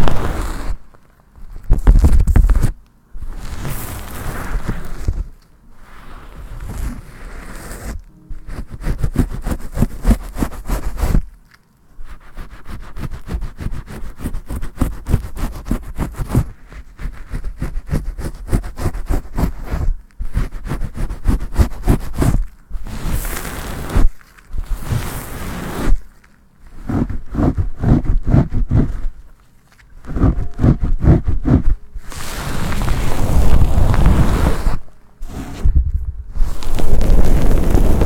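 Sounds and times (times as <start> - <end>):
lathered hands scrubbing microphone: 1.8 - 11.3, 12.0 - 26.1, 26.7 - 29.2, 30.0 - 35.7, 36.4 - 38.0.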